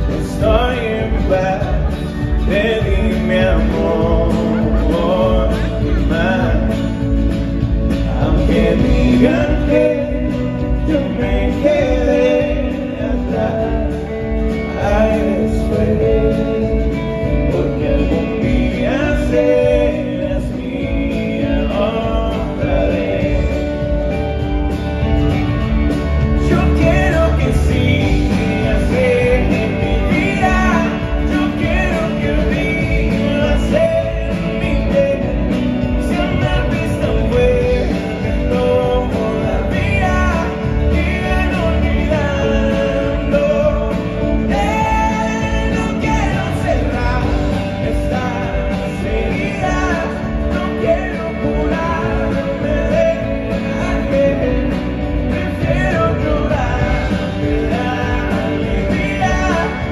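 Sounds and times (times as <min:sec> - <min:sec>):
live pop band playing: 0:00.0 - 0:59.9
person singing: 0:00.0 - 0:59.9.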